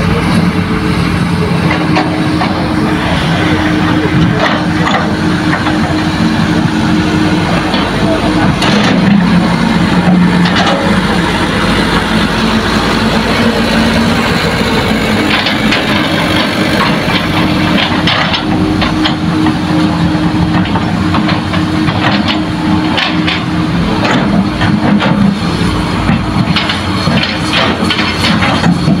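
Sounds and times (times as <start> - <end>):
dump trucks idling: 0.0 - 29.0
excavator digging soil: 0.0 - 29.0.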